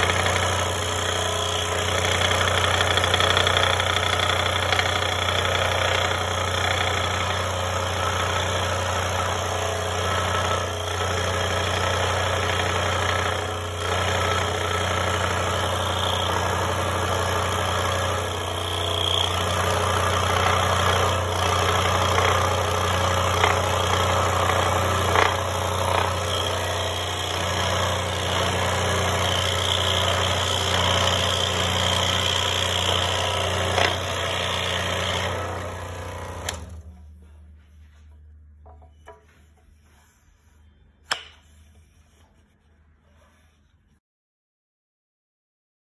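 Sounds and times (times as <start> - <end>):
scroll saw cutting wood: 0.0 - 37.0.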